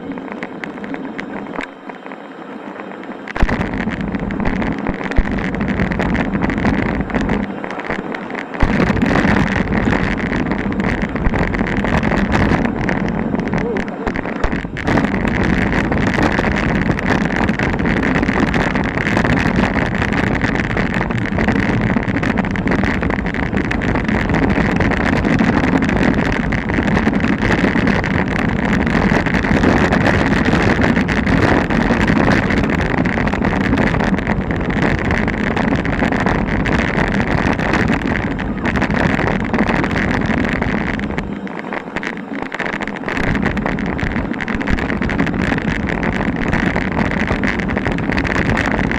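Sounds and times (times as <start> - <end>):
bike rattling on stones: 0.0 - 48.9
wind buffeting microphone: 0.0 - 48.9.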